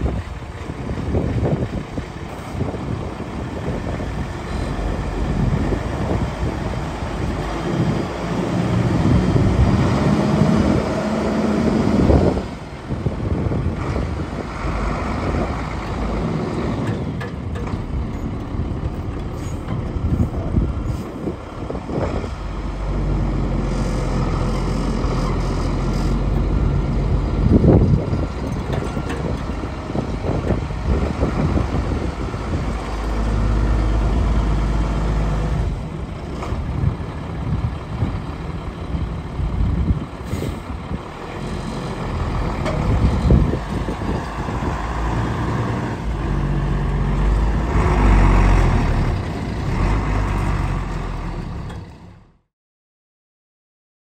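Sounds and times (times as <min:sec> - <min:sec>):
rushes of air noise: 0:00.0 - 0:50.8
diesel engine idling: 0:00.0 - 0:52.3.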